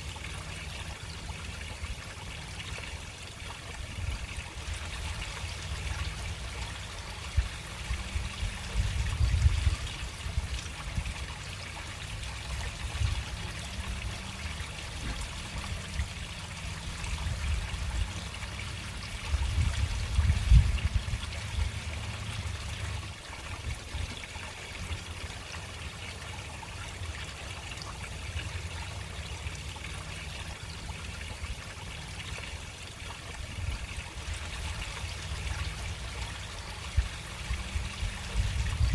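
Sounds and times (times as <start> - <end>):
water trickling into drain: 0.0 - 38.9.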